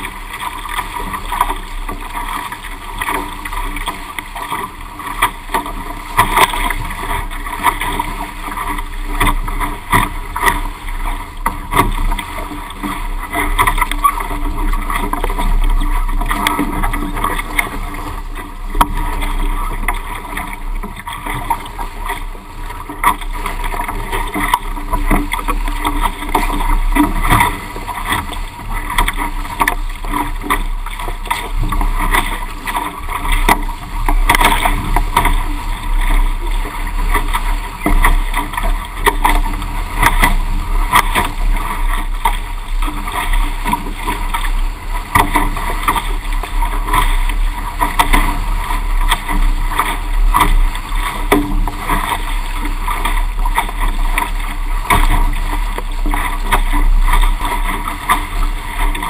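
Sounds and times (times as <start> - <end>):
water rushing against a hull: 0.0 - 59.0.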